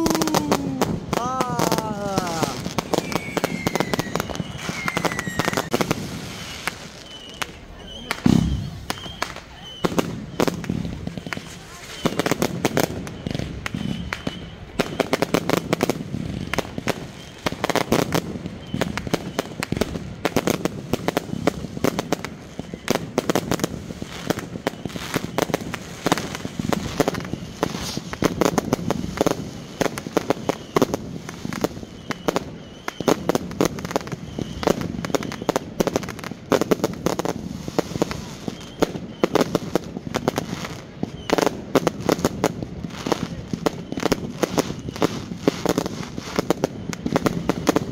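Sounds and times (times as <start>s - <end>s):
fireworks crackling bangs: 0.0s - 47.9s.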